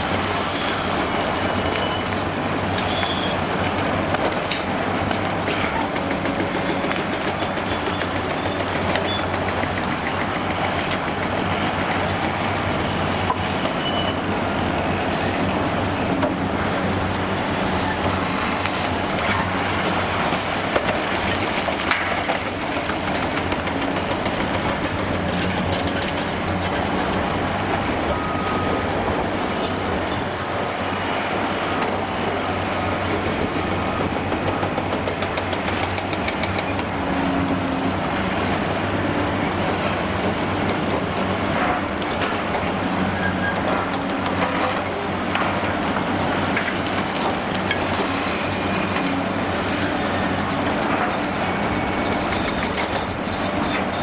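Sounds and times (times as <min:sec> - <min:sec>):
excavator diesel engines: 0:00.0 - 0:54.0.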